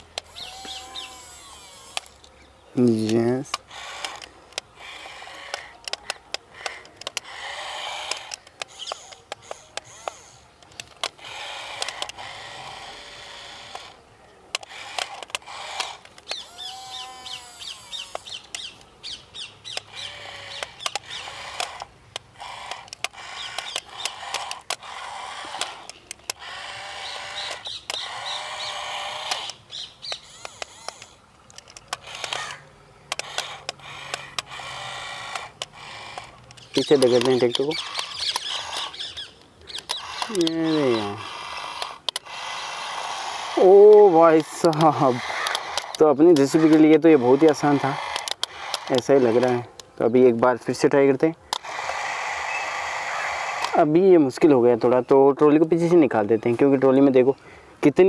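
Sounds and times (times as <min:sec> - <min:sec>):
sharp clicks: 0:00.0 - 0:58.0
small electric motors whirring: 0:00.0 - 0:58.0.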